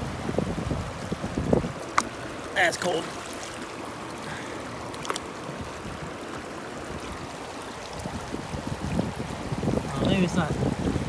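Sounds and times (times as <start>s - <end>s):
stream running over cobbles: 0.0s - 11.0s.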